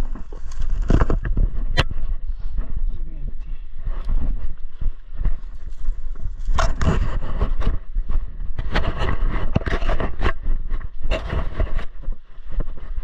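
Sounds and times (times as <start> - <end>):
rustling through undergrowth: 0.0 - 2.8, 3.9 - 13.0
wind rumble on microphone: 0.0 - 13.0.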